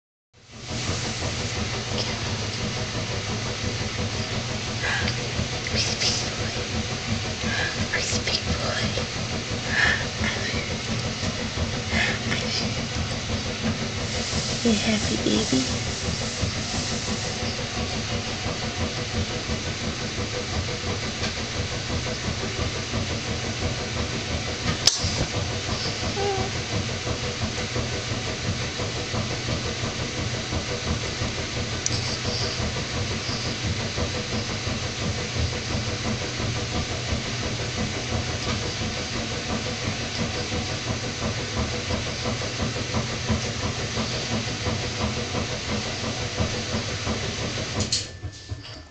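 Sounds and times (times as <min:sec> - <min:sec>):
constant low hum: 0:00.8 - 0:48.9.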